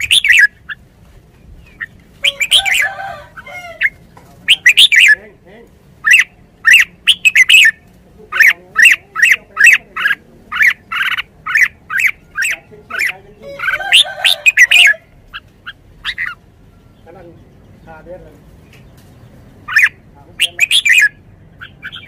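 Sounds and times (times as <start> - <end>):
bird calling sharp notes: 0.0 - 0.8, 1.6 - 5.2, 6.0 - 17.1, 19.6 - 22.0.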